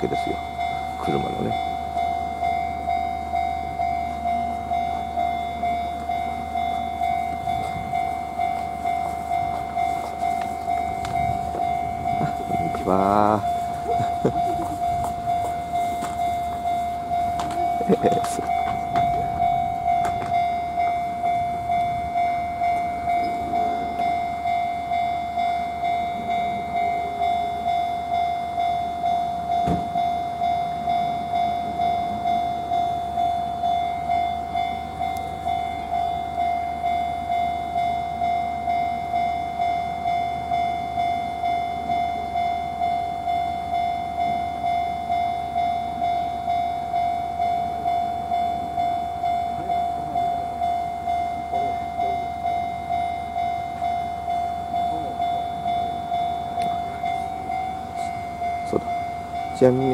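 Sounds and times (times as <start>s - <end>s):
level crossing warning bell: 0.0s - 59.9s.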